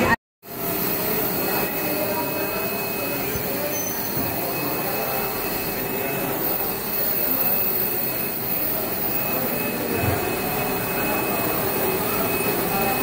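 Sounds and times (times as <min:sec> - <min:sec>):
steam hissing: 0:00.5 - 0:13.0.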